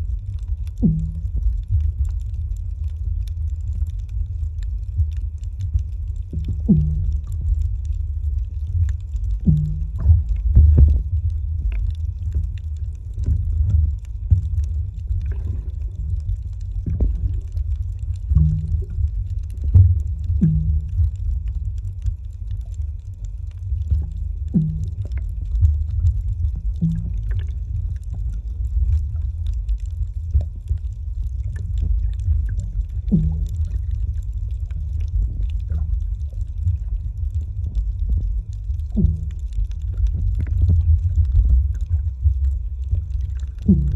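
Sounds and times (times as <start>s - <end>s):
low hum: 0.0s - 43.9s
muffled underwater rumble: 0.0s - 43.9s
small clicks and gurgles: 0.0s - 43.9s.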